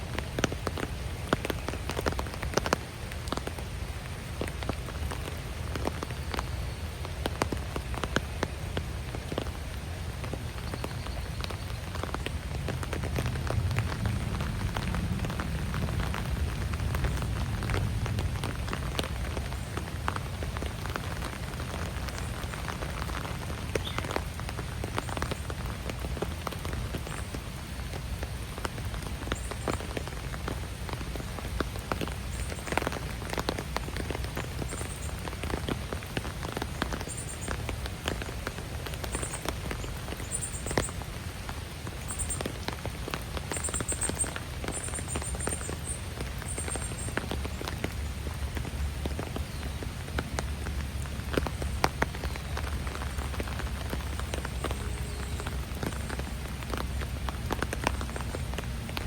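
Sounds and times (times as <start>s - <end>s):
raindrops pattering on leaves: 0.0s - 59.0s.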